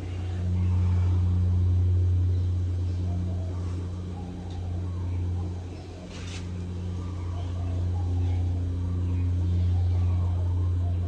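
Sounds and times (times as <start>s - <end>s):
ceiling fan humming: 0.0s - 11.0s.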